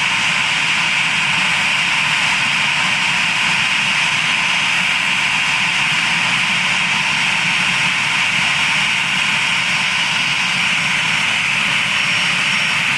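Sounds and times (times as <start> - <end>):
jet engine running: 0.0 - 12.9.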